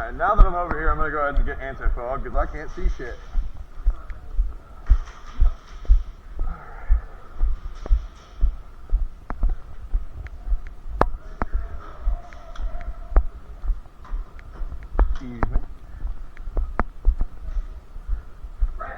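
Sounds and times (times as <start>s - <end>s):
sharp clicks: 0.0s - 18.8s
dull footstep thumps: 0.0s - 18.9s.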